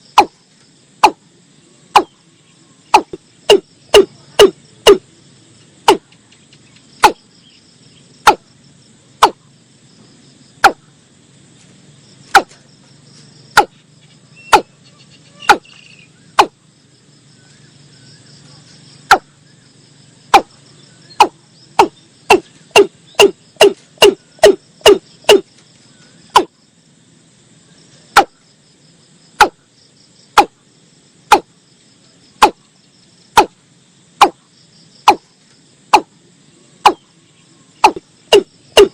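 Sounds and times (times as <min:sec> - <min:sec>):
faint insect hiss: 0:00.0 - 0:38.9.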